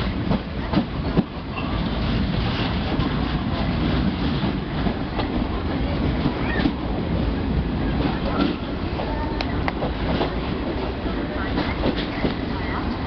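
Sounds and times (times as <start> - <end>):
train rumble from aboard: 0.0 - 13.0.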